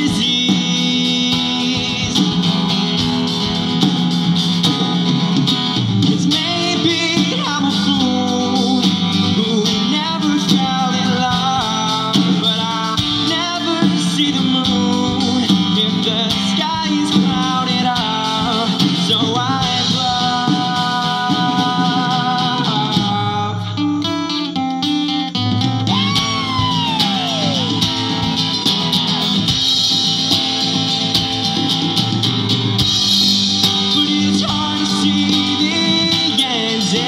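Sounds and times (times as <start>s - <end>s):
man singing: 0.0s - 3.8s, 5.9s - 24.6s, 25.9s - 29.5s, 33.0s - 37.0s
acoustic guitar: 0.0s - 37.0s.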